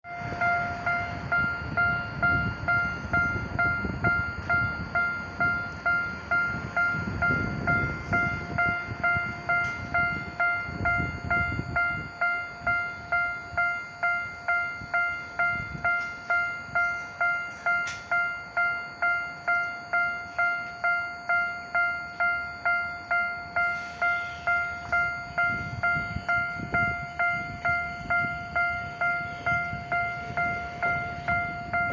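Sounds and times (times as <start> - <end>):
level crossing bell ringing: 0.1 - 31.9.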